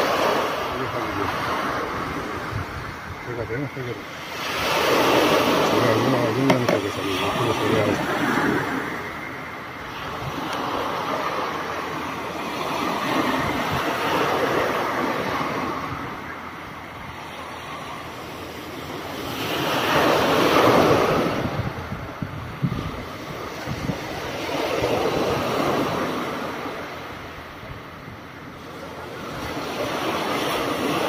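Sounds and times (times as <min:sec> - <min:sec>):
sea waves washing onto beach: 0:00.0 - 0:31.0
wind rumbling on microphone: 0:00.0 - 0:31.0.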